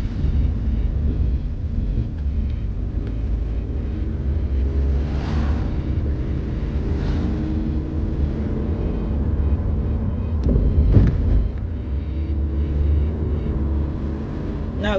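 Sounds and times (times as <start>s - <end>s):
tyres on road: 0.0s - 14.9s
vehicle engine rumble: 0.0s - 14.9s.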